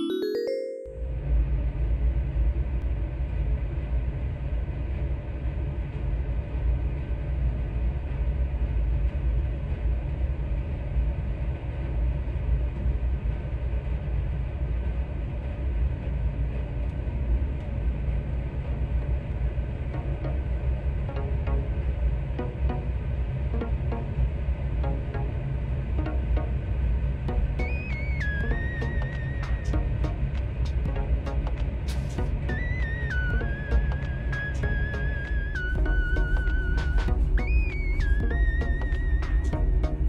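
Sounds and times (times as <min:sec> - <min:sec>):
ship low rumble and rushing: 0:01.3 - 0:40.0.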